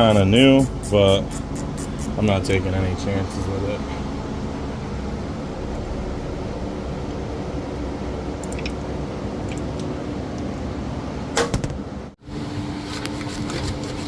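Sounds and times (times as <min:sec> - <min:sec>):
low background rumble: 0:00.0 - 0:12.4.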